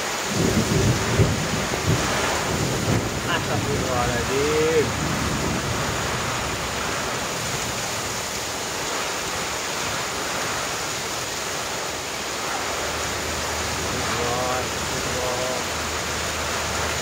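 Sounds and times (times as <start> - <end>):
heavy rain pouring on street: 0.0 - 17.0.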